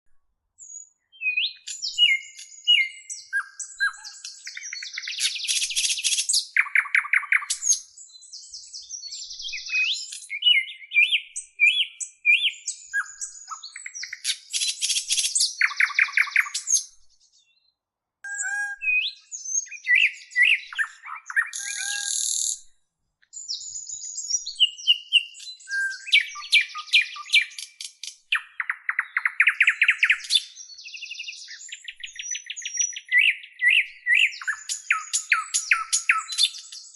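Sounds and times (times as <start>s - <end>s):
small birds chirping: 0.6s - 36.9s.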